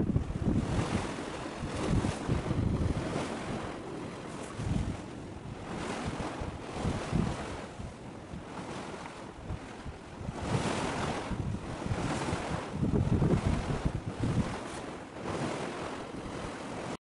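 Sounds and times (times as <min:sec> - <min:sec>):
rush of wind and sea: 0:00.0 - 0:17.0
wind buffeting microphone: 0:00.0 - 0:17.0.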